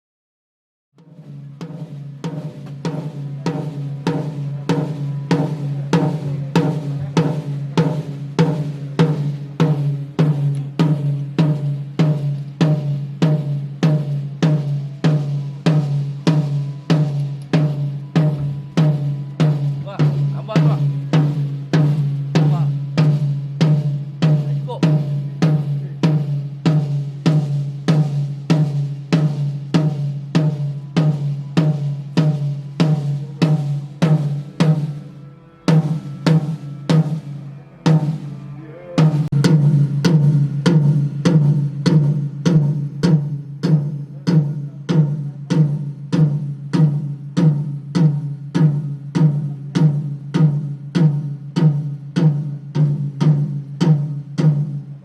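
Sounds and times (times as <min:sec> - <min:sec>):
tuned drum struck: 0:01.0 - 0:54.9.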